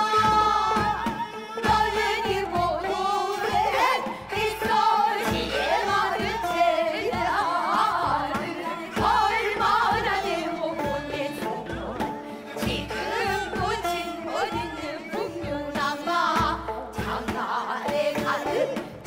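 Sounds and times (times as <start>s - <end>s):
musical accompaniment: 0.0s - 19.0s
women singing folk song: 0.0s - 19.0s.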